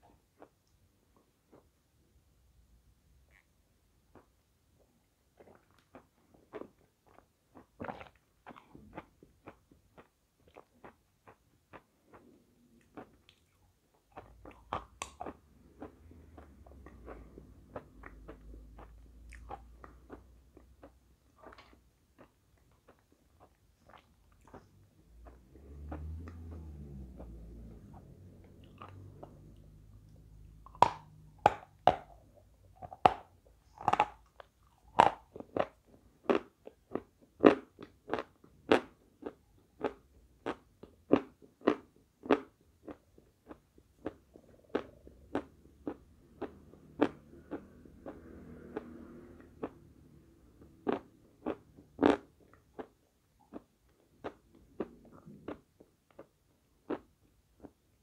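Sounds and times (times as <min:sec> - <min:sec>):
soft chewing: 0:00.0 - 0:01.8, 0:03.3 - 0:49.8, 0:50.6 - 0:58.0.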